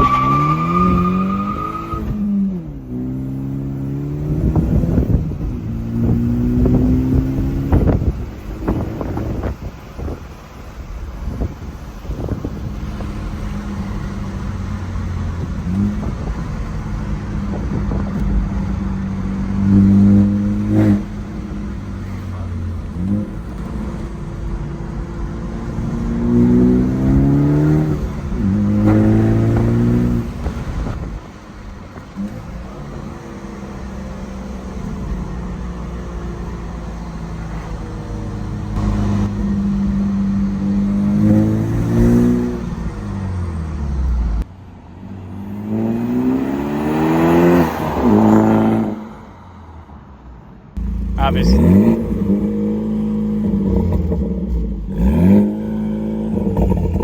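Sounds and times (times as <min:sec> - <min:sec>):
car exhaust accelerating: 0:00.0 - 0:49.2, 0:50.7 - 0:57.0.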